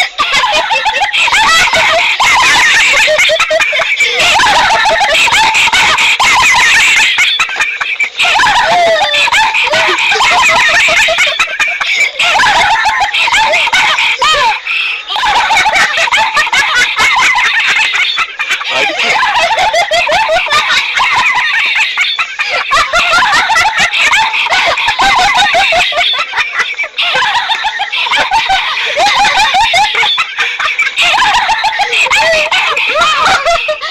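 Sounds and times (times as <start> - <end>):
high-pitched giggling and laughter: 0.0 - 33.9.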